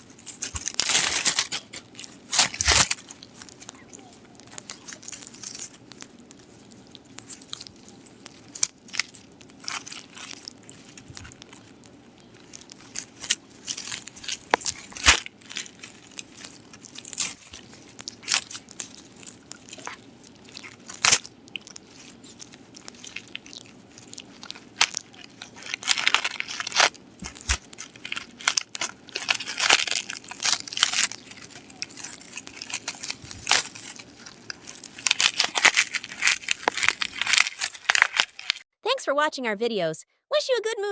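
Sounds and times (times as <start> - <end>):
dog chewing crunchy food: 1.8 - 38.6.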